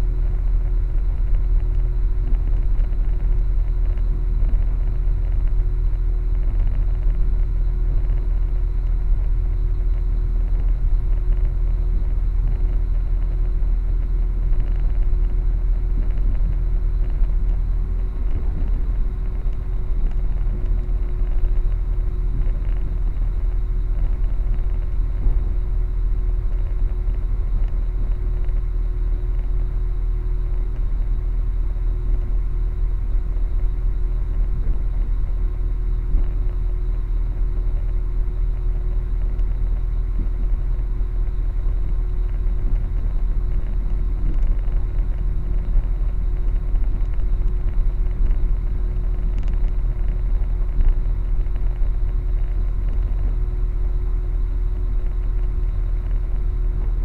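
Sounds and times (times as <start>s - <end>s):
constant hum: 0.0s - 57.0s
train low rumble: 0.0s - 57.0s.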